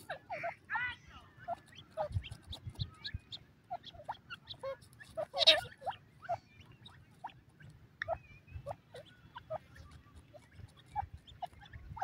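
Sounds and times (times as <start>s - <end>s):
birds chirping softly: 0.0s - 12.0s.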